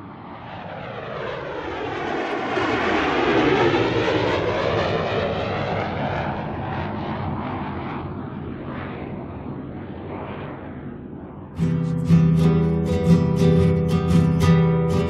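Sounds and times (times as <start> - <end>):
airplane flying over: 0.0 - 15.0.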